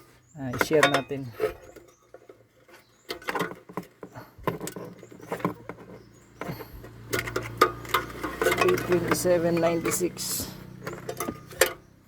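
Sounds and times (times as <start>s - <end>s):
small objects clicking and scraping: 0.0s - 11.9s.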